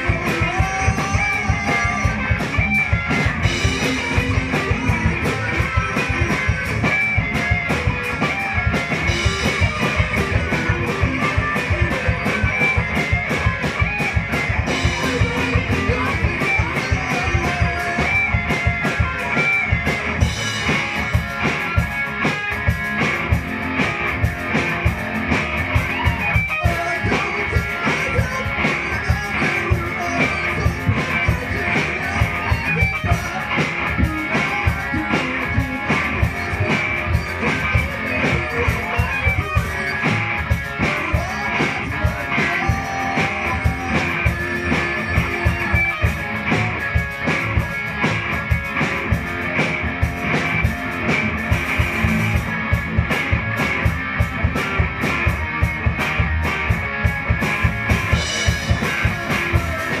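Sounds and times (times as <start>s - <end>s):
drum kit beat: 0.0s - 60.0s
electric guitars: 0.0s - 60.0s.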